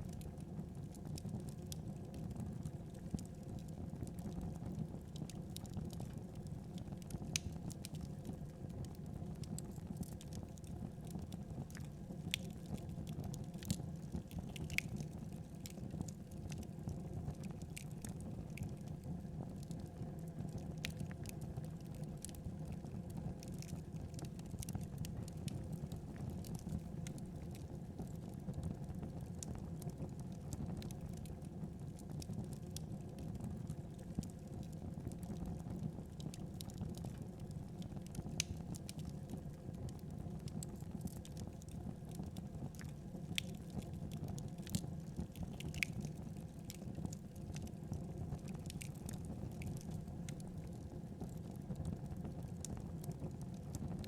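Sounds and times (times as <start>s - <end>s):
fire burning low rumble: 0.0s - 54.0s
fire crackles and pops: 0.0s - 54.0s.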